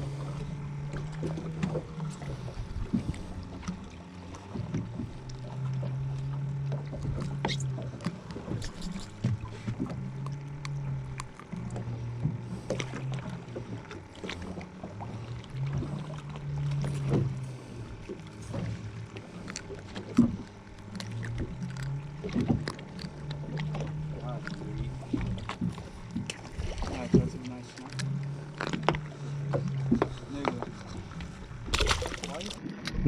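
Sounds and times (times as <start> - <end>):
boat engine idling: 0.0 - 33.0.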